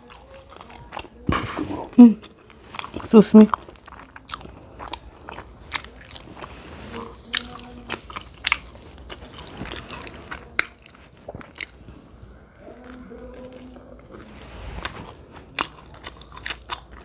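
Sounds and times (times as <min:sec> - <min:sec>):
wet chewing with smacks: 0:00.0 - 0:17.0.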